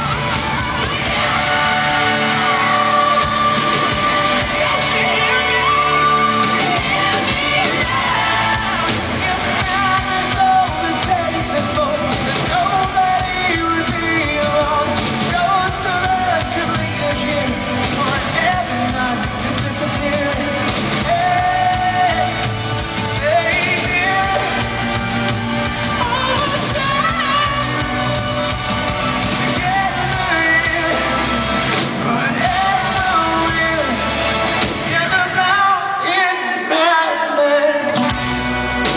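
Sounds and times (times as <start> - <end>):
person singing lead vocals: 0.0 - 25.2, 25.8 - 38.9
live rock band: 0.0 - 38.9.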